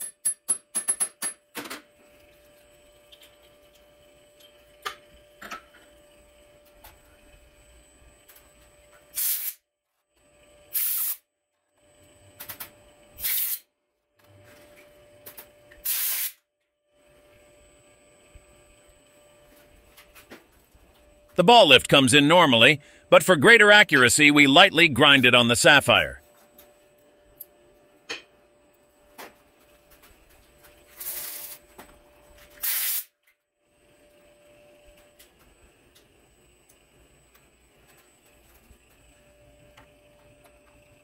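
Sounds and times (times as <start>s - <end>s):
low workshop hum: 0.0s - 41.0s.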